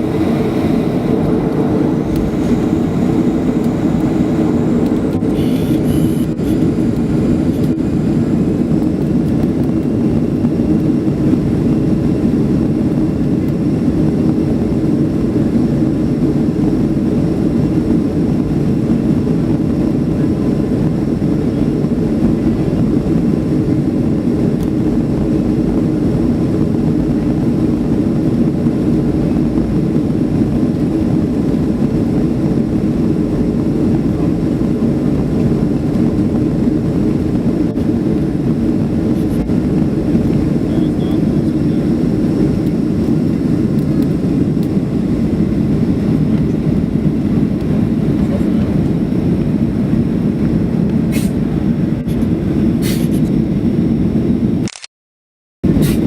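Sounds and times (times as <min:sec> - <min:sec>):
jet engines roaring in cabin: 0:00.0 - 0:54.7, 0:55.6 - 0:56.0.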